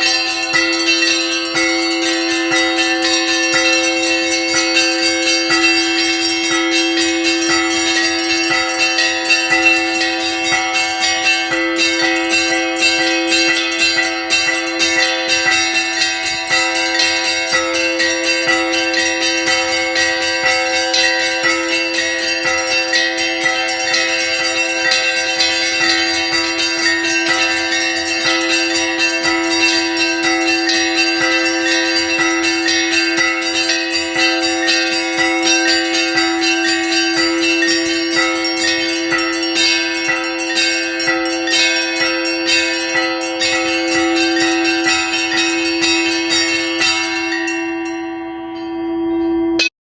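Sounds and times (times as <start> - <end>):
hum of large bells: 0.0 - 49.7
small bells striking fast: 0.0 - 49.7.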